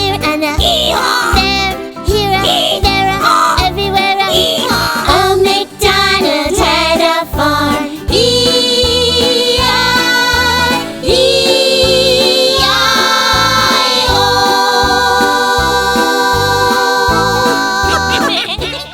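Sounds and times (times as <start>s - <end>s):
upbeat children's song: 0.0s - 18.9s.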